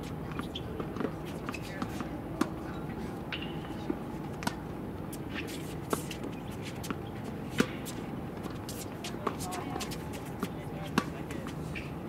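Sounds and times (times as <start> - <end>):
tennis balls bouncing and struck: 0.0 - 12.0.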